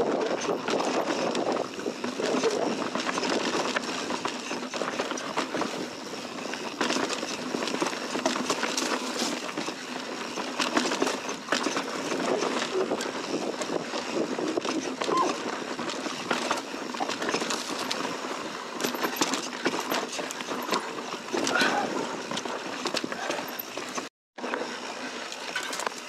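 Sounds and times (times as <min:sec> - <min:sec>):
bike rattling and clicking: 0:00.0 - 0:26.0
bike tyres crunching over rocks: 0:00.1 - 0:26.0.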